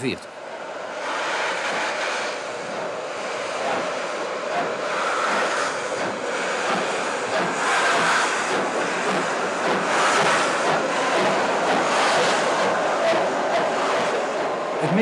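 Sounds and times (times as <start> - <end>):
steam locomotive hissing: 0.7 - 15.0.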